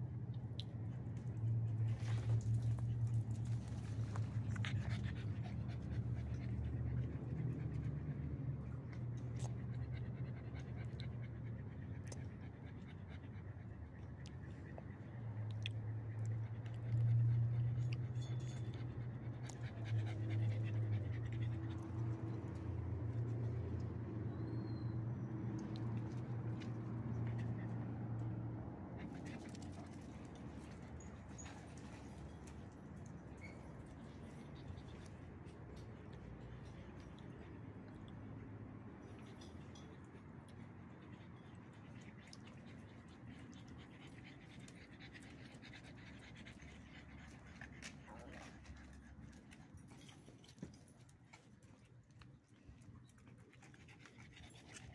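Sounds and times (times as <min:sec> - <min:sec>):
dog panting: 0:00.9 - 0:24.1, 0:25.5 - 0:54.9.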